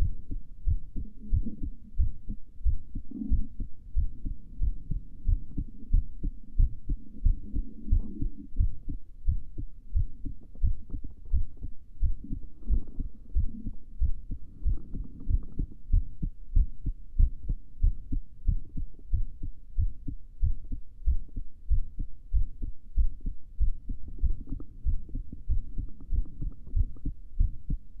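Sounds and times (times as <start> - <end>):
heartbeat thumps: 0.0 - 28.0.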